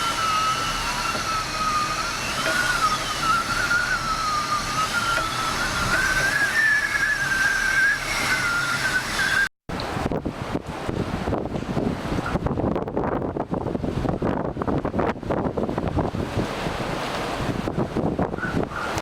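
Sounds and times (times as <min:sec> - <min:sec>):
wind howling with high whistle: 0:00.0 - 0:19.0.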